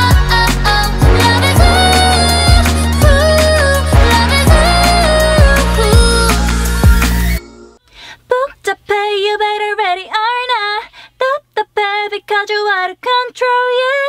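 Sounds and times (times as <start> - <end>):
woman singing: 0.0 - 7.3, 8.3 - 14.0.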